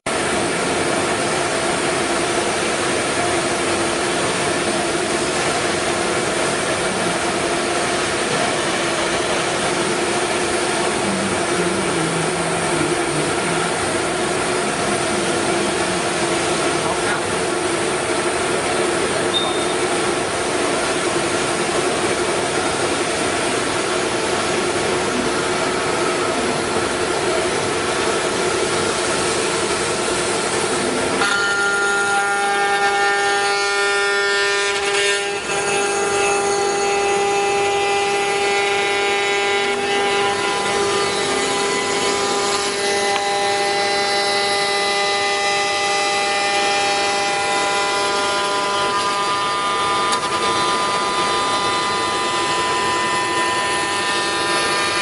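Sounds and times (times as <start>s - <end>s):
cnc router machine whine: 0.1s - 55.0s.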